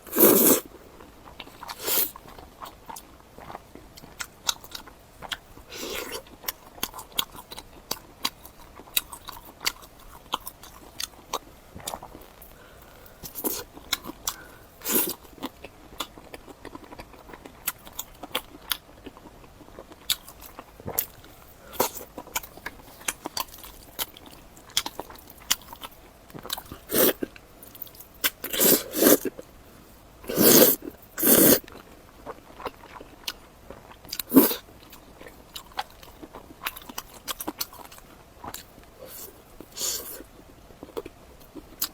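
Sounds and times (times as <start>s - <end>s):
crunching and wet mouth sounds: 0.0s - 29.5s, 30.2s - 41.9s.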